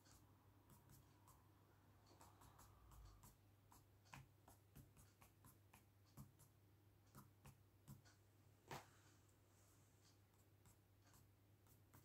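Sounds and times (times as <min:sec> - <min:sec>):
pencil strokes on paper: 0:00.0 - 0:12.0.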